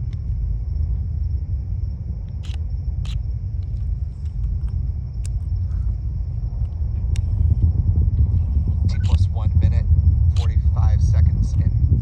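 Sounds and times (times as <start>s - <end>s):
distant rocket engine rumble: 0.0s - 12.0s.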